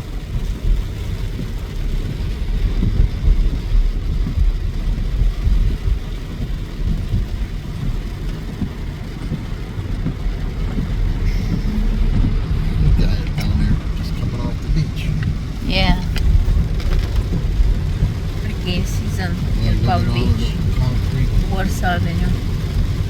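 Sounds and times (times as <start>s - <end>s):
wind gusting against microphone: 0.0s - 22.4s.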